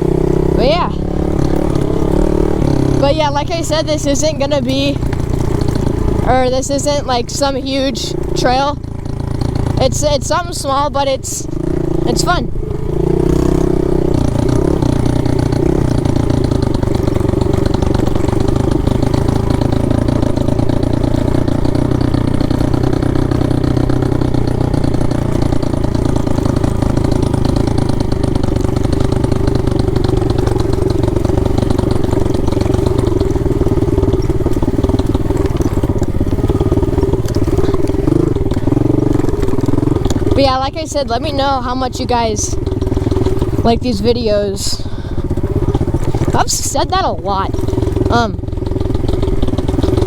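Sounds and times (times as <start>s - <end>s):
small motorbike engine running: 0.0s - 50.0s.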